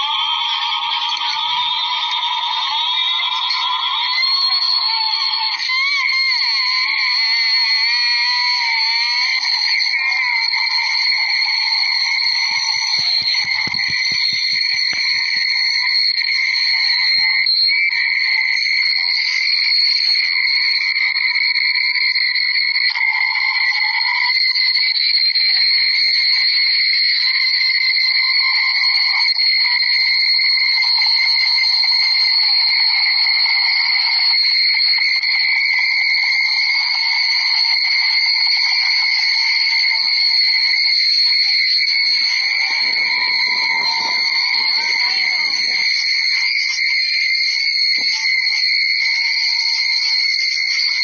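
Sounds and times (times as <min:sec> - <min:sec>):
constant high-pitched ring: 0:00.0 - 0:51.0.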